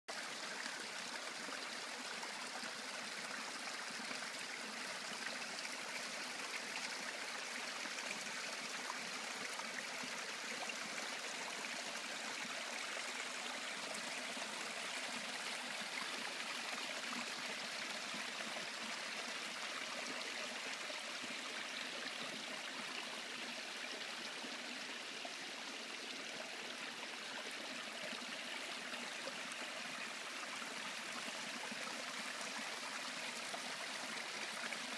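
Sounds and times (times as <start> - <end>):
brook trickling over stones: 0.1 - 34.9.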